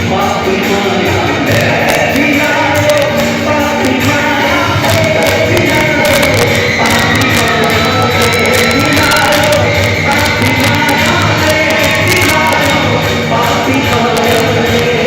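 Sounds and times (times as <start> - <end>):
drums and cymbals: 0.0 - 15.0
person singing lead vocals: 0.0 - 15.0.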